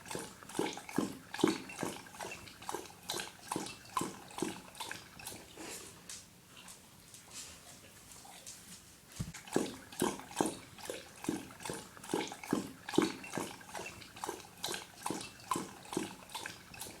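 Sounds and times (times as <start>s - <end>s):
dog lapping water: 0.0s - 6.8s, 9.3s - 17.0s.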